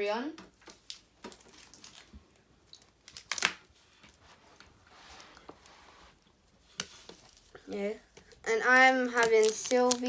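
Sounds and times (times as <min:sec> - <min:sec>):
soft rustling of packs: 0:00.5 - 0:10.0.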